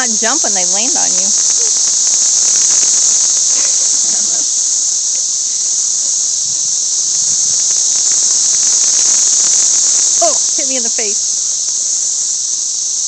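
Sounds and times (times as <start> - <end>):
cicadas chorus: 0.0 - 13.0.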